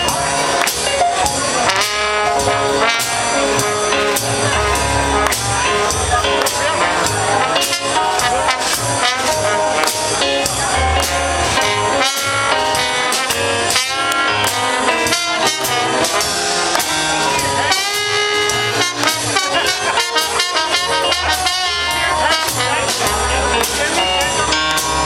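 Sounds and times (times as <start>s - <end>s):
brass music over steady beat: 0.0s - 25.0s.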